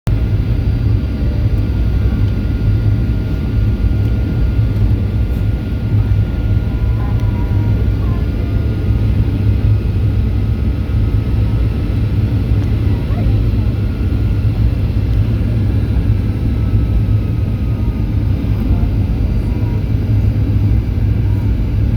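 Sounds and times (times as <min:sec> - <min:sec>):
faint engine whines: 0:00.1 - 0:21.9
jet engine cabin rumble: 0:00.1 - 0:21.9.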